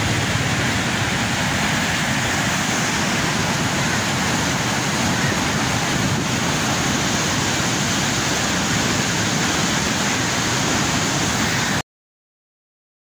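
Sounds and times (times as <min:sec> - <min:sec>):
turbulent water rushing: 0:00.0 - 0:11.8.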